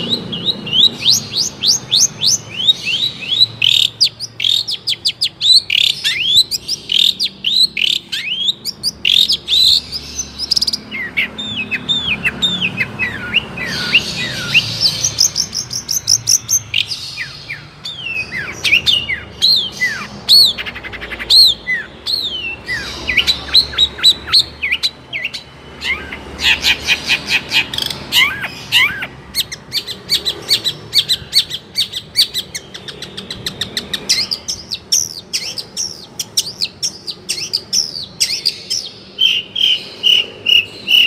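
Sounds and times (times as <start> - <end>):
bird singing with trills: 0.0 - 41.0.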